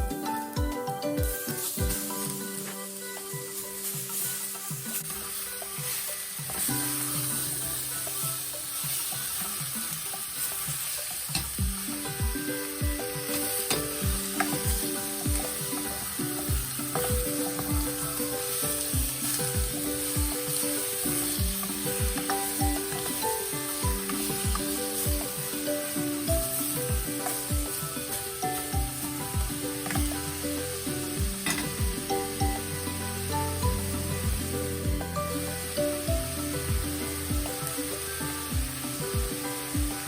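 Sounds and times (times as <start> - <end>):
background music with beat: 0.0 - 40.0
food sizzling in a pan: 0.0 - 40.0
stirring in a pan: 3.6 - 40.0.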